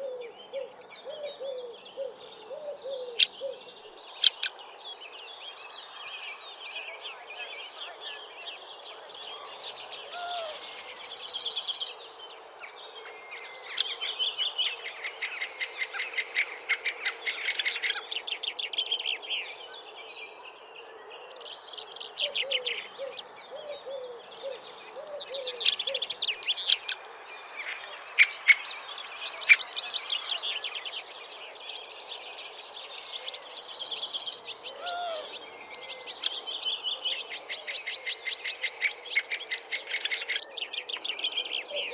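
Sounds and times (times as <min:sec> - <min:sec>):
songbirds singing trilled phrases: 0:00.0 - 0:41.9.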